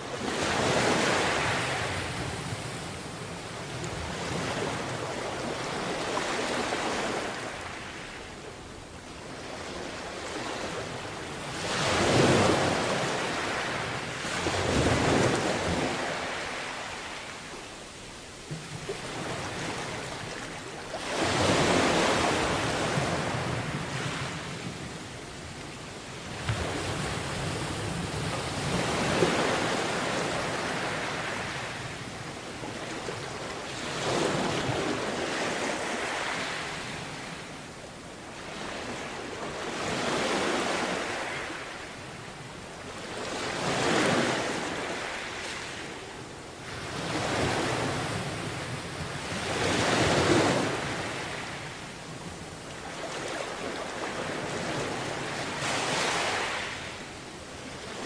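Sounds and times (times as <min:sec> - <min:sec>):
sea waves breaking on beach: 0:00.0 - 0:08.5, 0:09.2 - 0:58.0.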